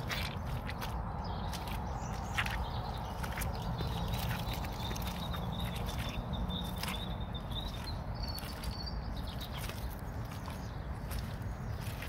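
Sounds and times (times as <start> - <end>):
footsteps on wet grass: 0.0 - 12.0.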